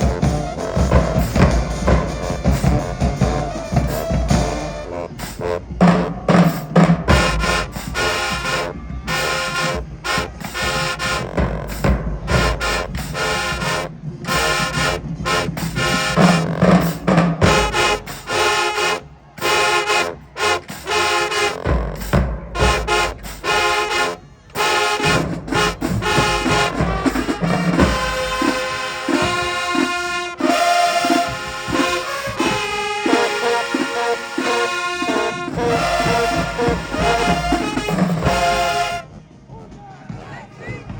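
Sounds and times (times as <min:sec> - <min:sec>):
brass horn notes: 0:00.0 - 0:39.3
steady drum beat: 0:00.0 - 0:39.3
marching band playing: 0:00.0 - 0:40.9.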